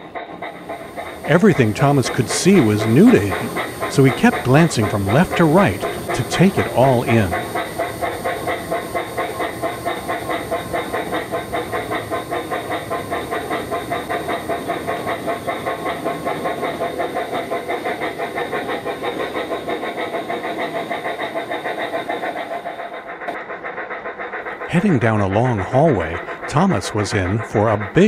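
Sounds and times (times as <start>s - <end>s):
model train running on track: 0.0s - 28.0s
steam locomotive chuffing sound effect: 0.0s - 28.0s.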